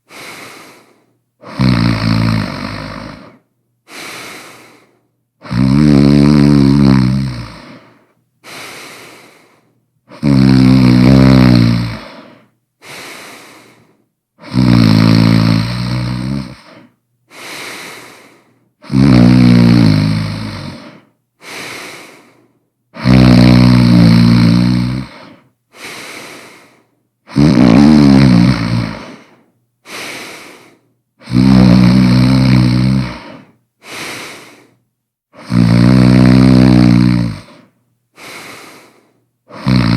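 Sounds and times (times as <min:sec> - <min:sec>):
loud snoring: 0:00.1 - 0:04.6, 0:05.4 - 0:09.3, 0:10.1 - 0:13.8, 0:14.4 - 0:18.2, 0:18.8 - 0:22.3, 0:23.0 - 0:26.7, 0:27.3 - 0:39.9.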